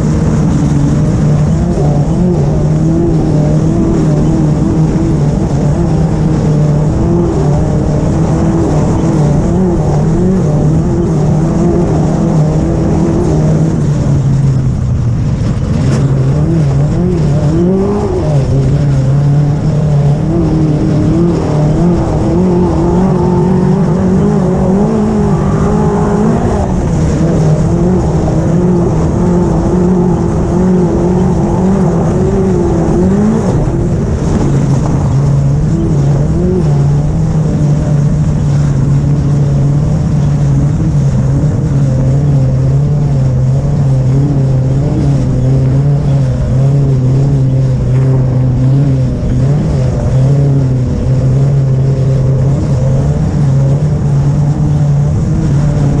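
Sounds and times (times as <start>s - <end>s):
low rumble of car on dirt track: 0.0s - 56.0s
race buggy engine running hard: 0.0s - 56.0s.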